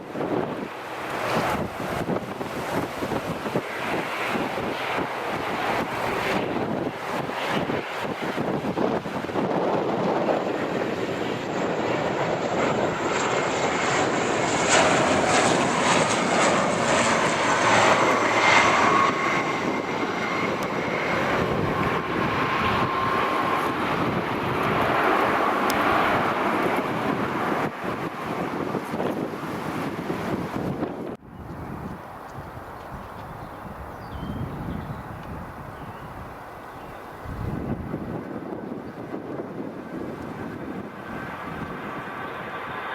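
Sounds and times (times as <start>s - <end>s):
airliner engines passing by: 0.0s - 42.9s.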